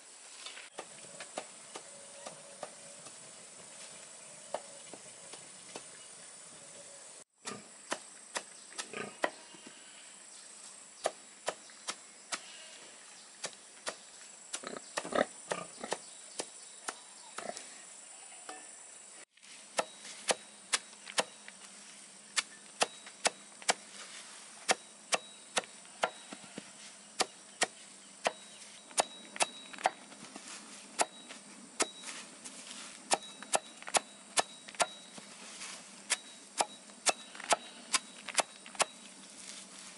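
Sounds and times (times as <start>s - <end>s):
steady high hiss: 0.0s - 16.8s, 17.7s - 39.9s.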